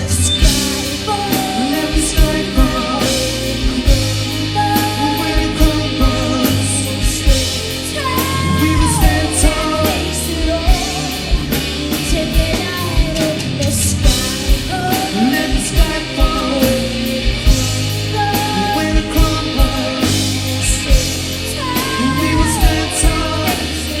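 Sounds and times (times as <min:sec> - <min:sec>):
drum beat: 0:00.0 - 0:24.0
person singing: 0:00.0 - 0:24.0
rock band playing: 0:00.0 - 0:24.0.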